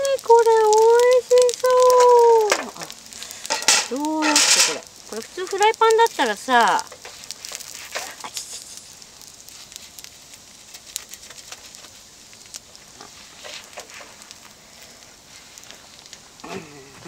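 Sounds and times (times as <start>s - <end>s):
dumplings sizzling with spitting oil: 0.0s - 17.0s.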